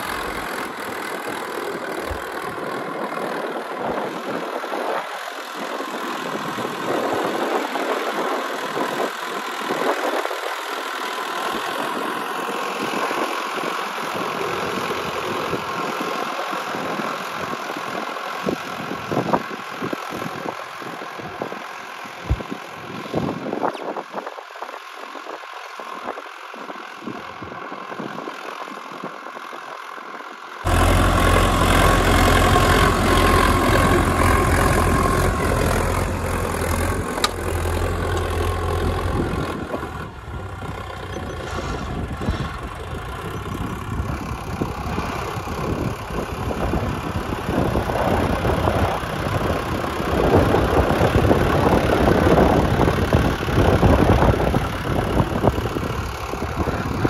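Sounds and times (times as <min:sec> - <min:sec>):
tractor diesel engine running: 0:00.0 - 0:23.6, 0:24.8 - 0:57.0.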